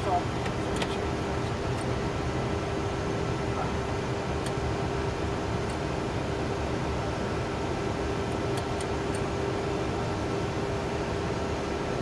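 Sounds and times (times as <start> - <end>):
jet engines droning: 0.0 - 12.0
steady hum: 0.0 - 12.0.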